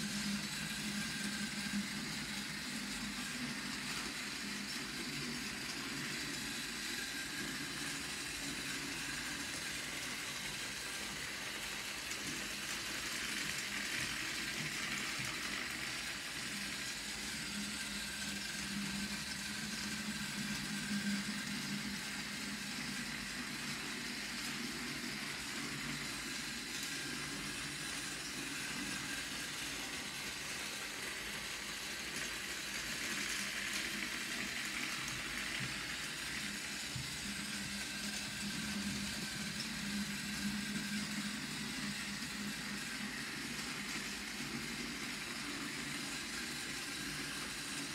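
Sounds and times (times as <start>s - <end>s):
toy train motor whirring: 0.0s - 47.9s.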